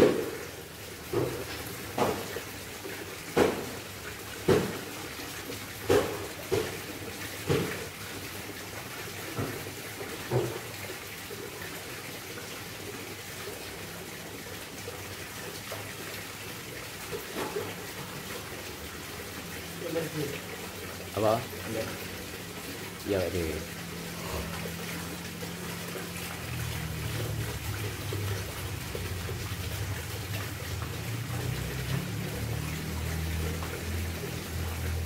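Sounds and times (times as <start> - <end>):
waterfall splashing into pond: 0.0 - 35.0.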